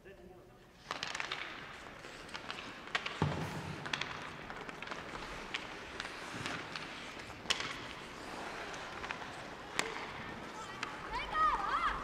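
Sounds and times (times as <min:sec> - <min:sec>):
rink and crowd noise: 0:00.0 - 0:12.0
hockey stick hitting puck: 0:00.8 - 0:12.0.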